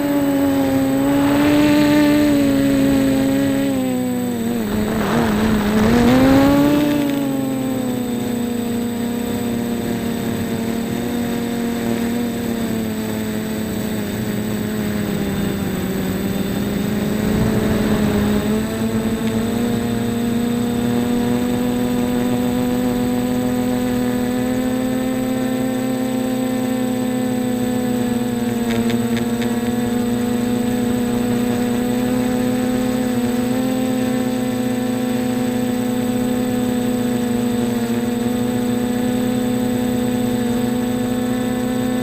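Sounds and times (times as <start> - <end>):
quadcopter propellers humming: 0.0 - 42.0.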